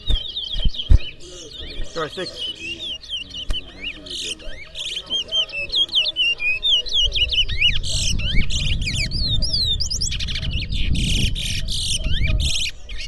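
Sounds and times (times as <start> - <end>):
bird song with whistled notes: 0.0 - 13.0
buzzy rattling bird phrases: 0.0 - 13.0.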